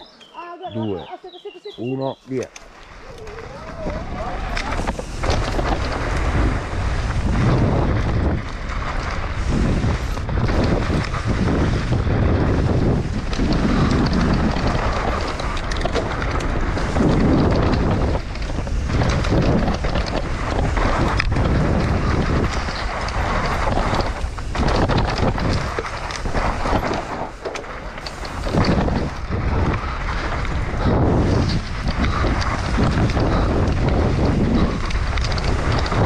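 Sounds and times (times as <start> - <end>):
wind buffeting microphone: 0.6 - 36.0
bike tyres rumbling on dirt: 2.6 - 36.0
bike knocks and rattles: 3.2 - 36.0.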